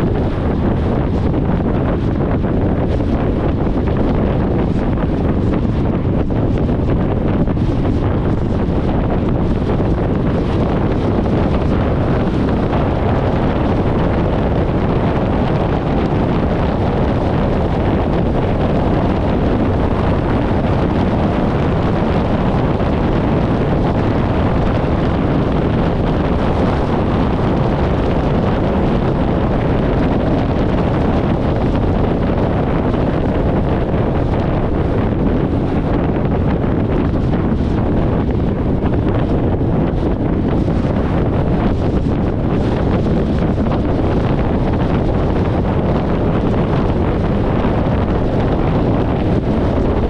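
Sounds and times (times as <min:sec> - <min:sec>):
road and engine noise: 0:00.0 - 0:50.0
wind buffeting microphone: 0:00.0 - 0:50.0.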